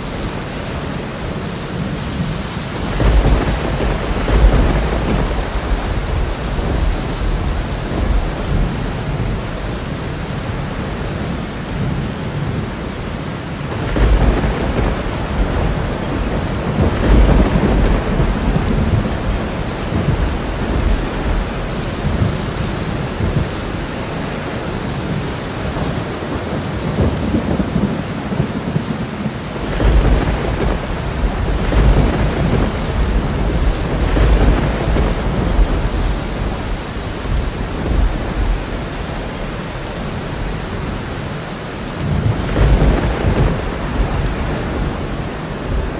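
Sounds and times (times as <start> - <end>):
heavy rain: 0.0 - 45.9
rolling thunder: 2.2 - 45.9.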